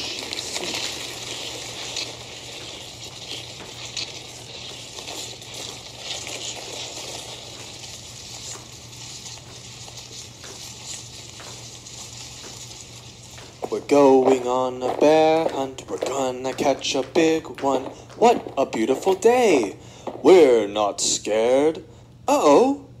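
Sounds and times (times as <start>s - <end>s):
shoes shuffling on hard floor: 0.0s - 21.6s
low room hum: 0.0s - 23.0s.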